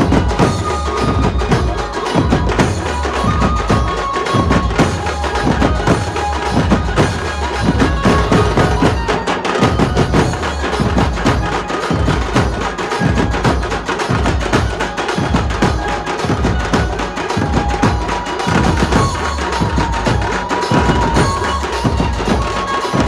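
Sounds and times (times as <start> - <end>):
fast loud drumming: 0.0 - 23.0
held melody line: 0.0 - 23.0.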